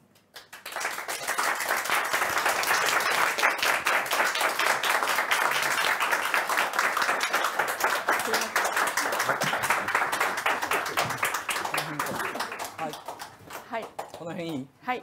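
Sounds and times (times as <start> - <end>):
audience applauding: 0.3 - 14.7.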